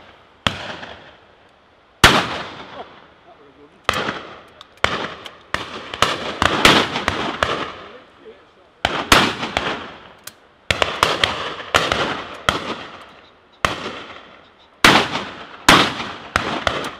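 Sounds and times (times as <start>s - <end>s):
shotguns firing: 0.0s - 1.2s, 2.0s - 3.1s, 3.8s - 8.0s, 8.8s - 16.9s.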